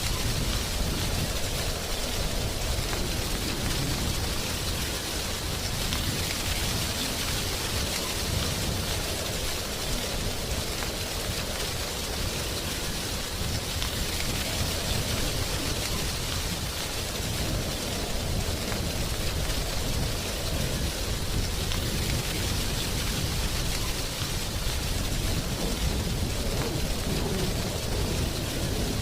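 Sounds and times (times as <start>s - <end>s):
low wind rumble: 0.0s - 29.0s
wind rustling dry leaves: 0.0s - 29.0s.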